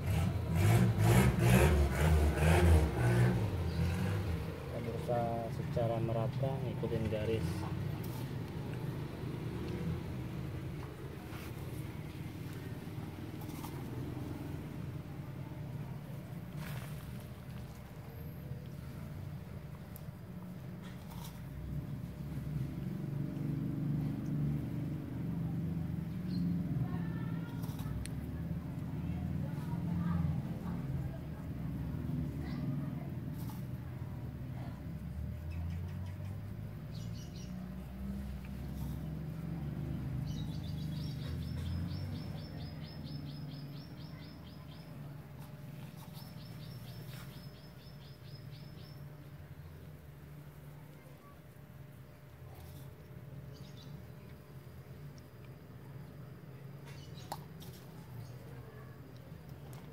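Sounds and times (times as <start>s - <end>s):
low engine hum: 0.0s - 59.9s
low steady rumble: 0.0s - 59.9s.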